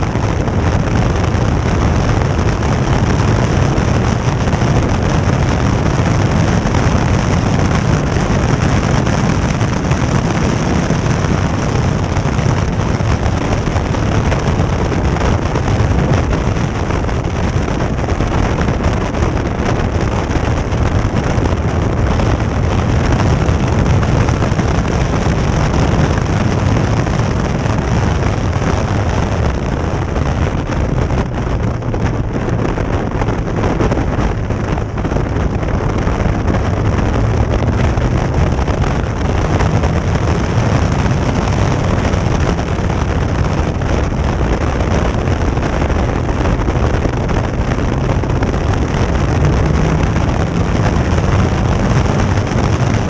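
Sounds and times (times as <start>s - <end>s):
racing car engine revving: 0.0s - 53.0s
wind buffeting on microphone: 0.0s - 53.0s.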